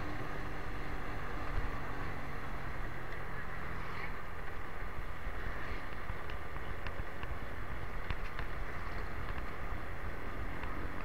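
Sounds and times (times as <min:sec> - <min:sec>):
motorcycle engine and road noise: 0:00.0 - 0:11.0.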